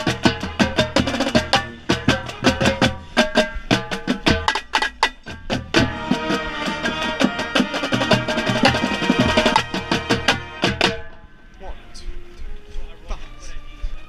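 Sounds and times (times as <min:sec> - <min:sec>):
tenor drums striking: 0:00.0 - 0:11.3
marching band chords: 0:00.0 - 0:14.0.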